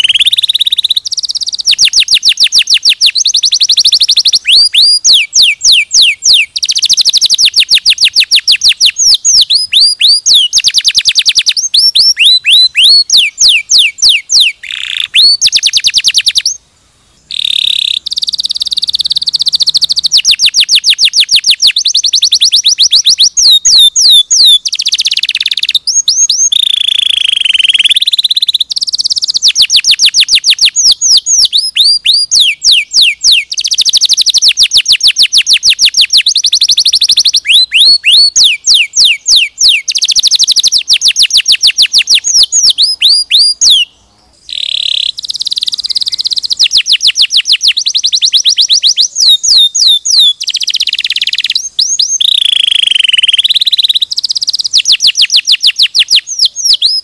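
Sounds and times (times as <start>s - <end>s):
canary singing: 0.0s - 16.6s, 17.2s - 57.0s.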